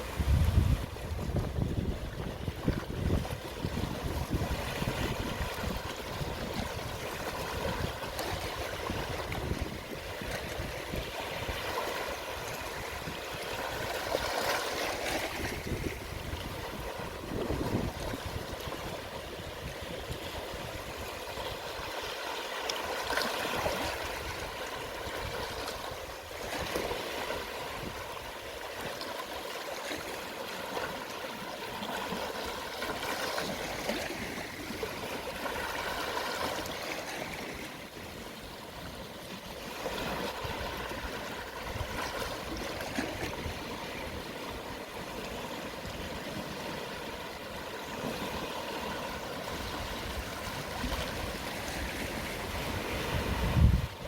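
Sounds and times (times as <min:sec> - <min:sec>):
sea waves washing over shore: 0:00.0 - 0:54.0.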